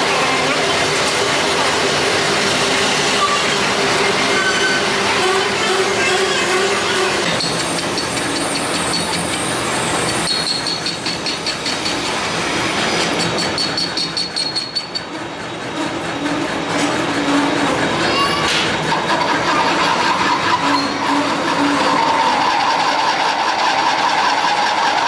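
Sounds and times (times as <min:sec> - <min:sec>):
metal lathe clattering: 0:00.5 - 0:25.0.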